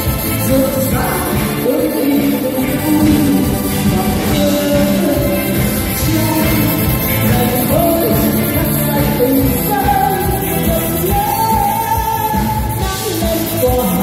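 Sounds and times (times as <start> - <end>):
live rock band playing: 0.0 - 14.0
woman singing into microphone: 0.4 - 14.0.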